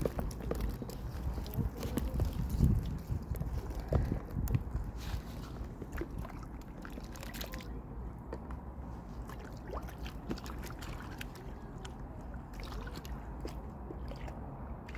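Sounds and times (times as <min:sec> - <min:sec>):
water splashing and trickling: 0:00.0 - 0:14.9.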